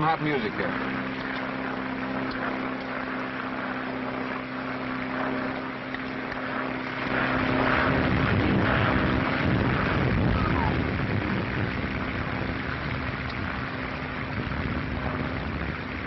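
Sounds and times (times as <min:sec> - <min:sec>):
noise haze: 0:00.0 - 0:16.0
propeller airplane engines droning: 0:00.0 - 0:16.0.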